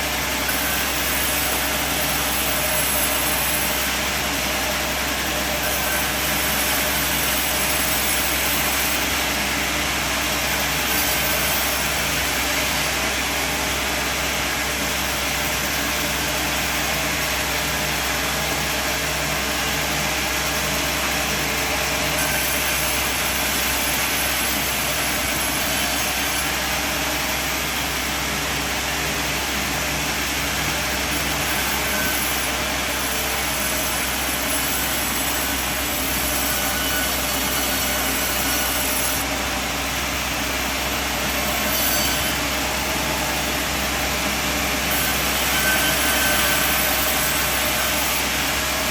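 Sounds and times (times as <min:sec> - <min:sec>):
band sawmill running: 0:00.0 - 0:48.9.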